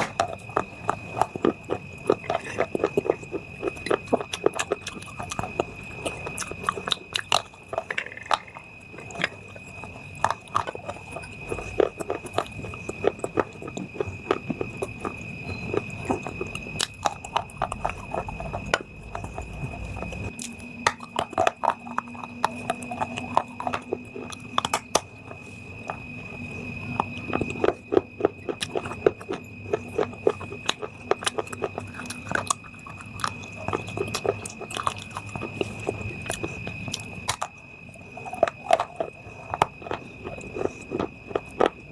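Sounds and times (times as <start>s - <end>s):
chewing: 0.0s - 41.9s
crunching brittle food: 0.0s - 41.9s.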